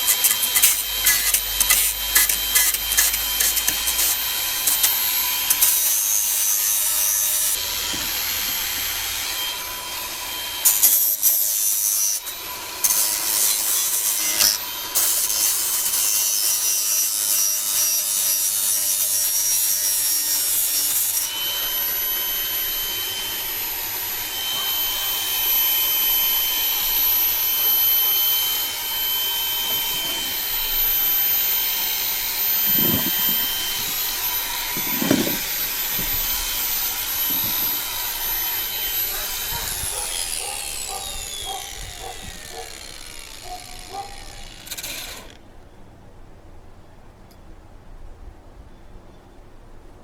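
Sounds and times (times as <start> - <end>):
power tool grinding metal: 0.0 - 45.5.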